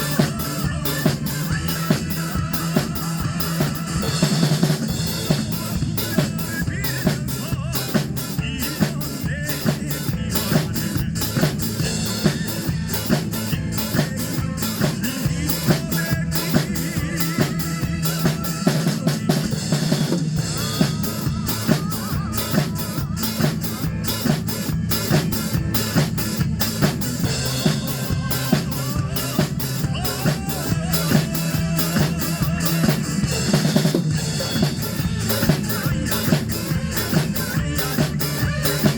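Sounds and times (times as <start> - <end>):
drum kit playing fast beat: 0.0 - 38.9
recorded song playing: 0.0 - 38.9.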